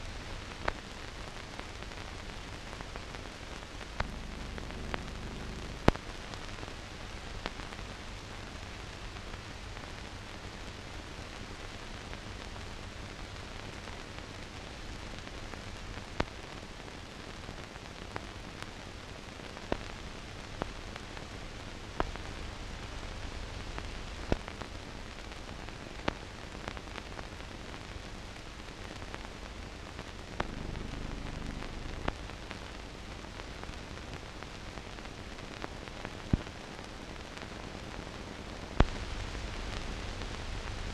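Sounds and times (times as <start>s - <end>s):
film surface hiss: 0.0s - 40.9s.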